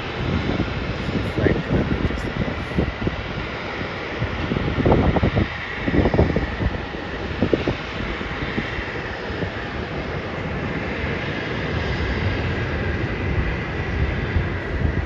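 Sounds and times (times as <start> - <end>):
jet engines rushing overhead: 0.0 - 15.0.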